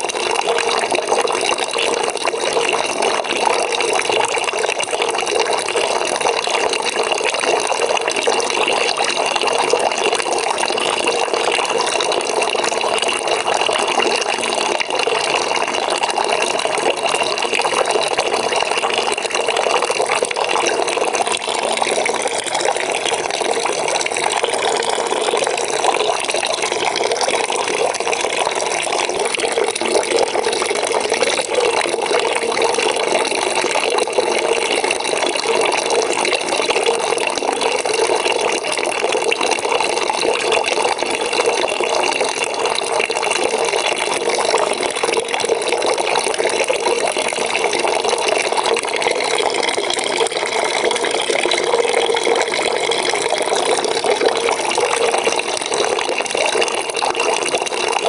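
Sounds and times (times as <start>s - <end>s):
tap water running into a bucket: 0.0s - 58.0s.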